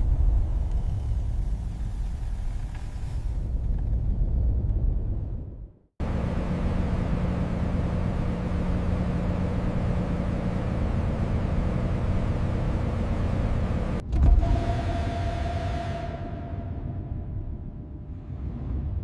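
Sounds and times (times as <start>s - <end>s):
heavy mechanical rumble: 0.0s - 19.0s.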